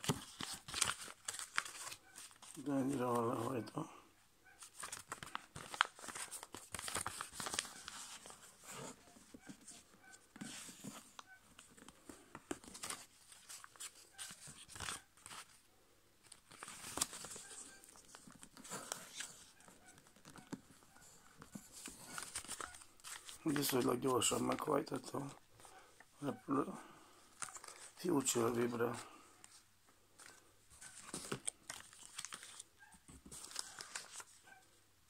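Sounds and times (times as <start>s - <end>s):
paper rustling and crackling: 0.0s - 3.6s, 4.6s - 15.6s, 16.2s - 25.4s, 27.3s - 34.4s.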